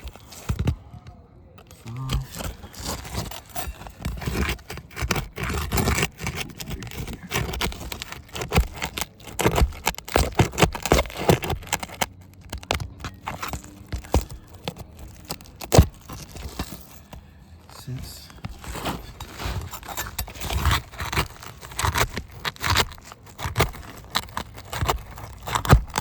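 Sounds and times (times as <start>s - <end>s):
metal tool scraping under shingle: 1.6s - 26.0s.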